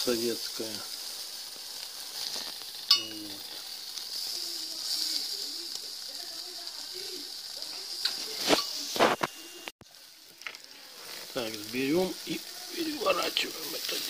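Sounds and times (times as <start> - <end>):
meat sizzling over coals: 0.0 - 14.0.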